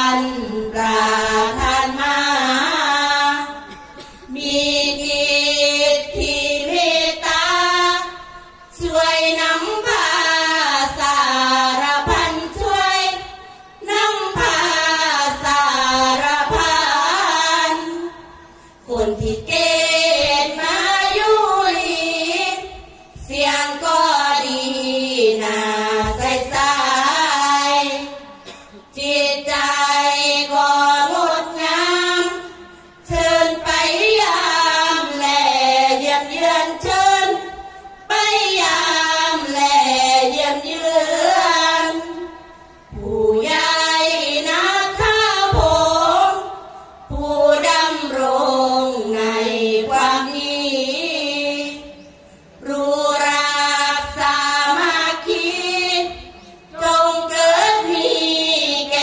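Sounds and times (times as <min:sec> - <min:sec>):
women chanting together: 0:00.0 - 0:52.0, 0:52.6 - 0:59.0.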